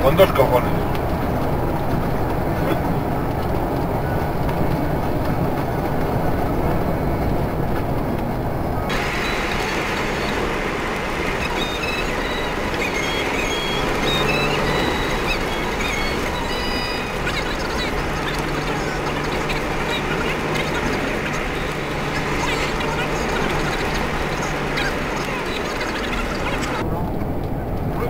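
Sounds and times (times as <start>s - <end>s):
truck engine and tyres rumbling: 0.0s - 28.0s.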